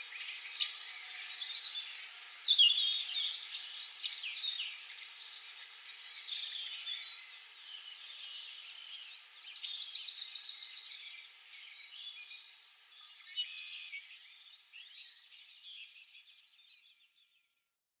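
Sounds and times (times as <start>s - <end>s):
birds chirping and singing: 0.0s - 16.8s.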